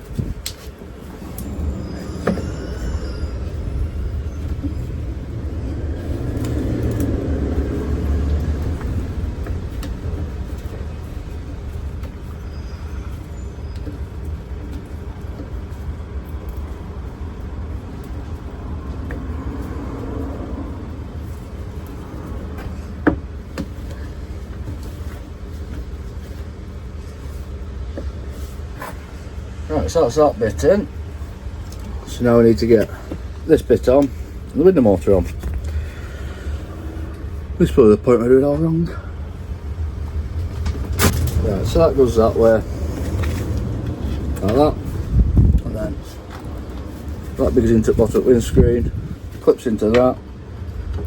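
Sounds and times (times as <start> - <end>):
vehicle engine rumble: 0.0 - 51.0.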